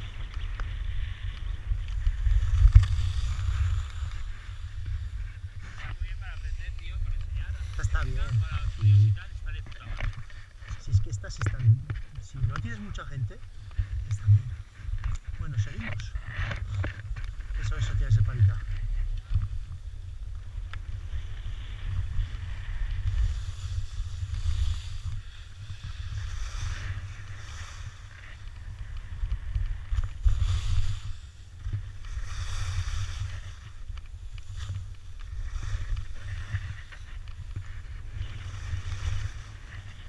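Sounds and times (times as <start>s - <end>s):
skis scraping on snow: 0.0s - 40.0s
wind rumble on microphone: 0.0s - 40.0s.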